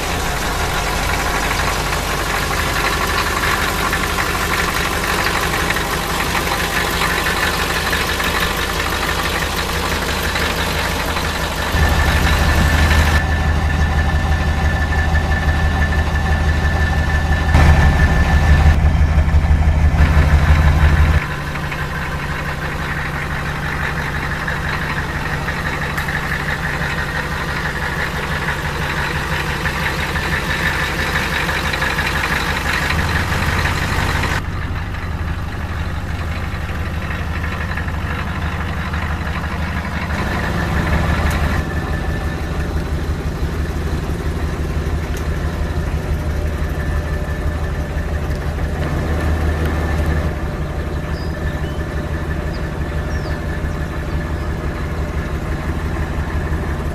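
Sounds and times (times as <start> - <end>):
diesel engine idling clatter: 0.0 - 56.9.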